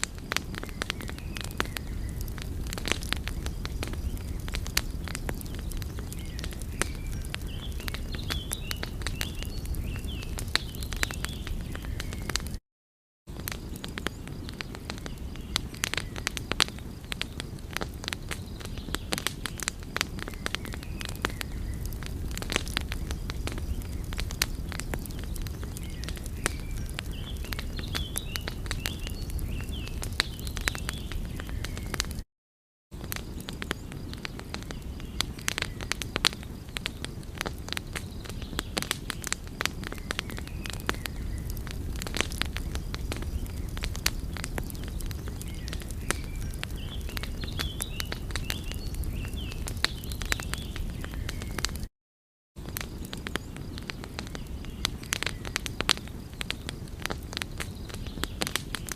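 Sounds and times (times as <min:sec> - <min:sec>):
burning wood popping: 0:00.0 - 0:12.6, 0:13.3 - 0:32.2, 0:32.9 - 0:51.9, 0:52.6 - 0:58.9
low rumble of flames: 0:00.0 - 0:12.6, 0:13.3 - 0:32.2, 0:33.0 - 0:51.9, 0:52.6 - 0:58.9.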